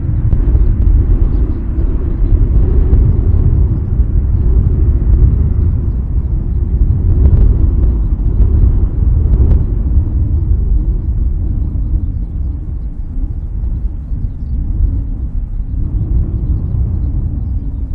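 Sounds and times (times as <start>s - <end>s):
distant jet engines idling: 0.0s - 17.9s
wind buffeting microphone: 0.0s - 17.9s.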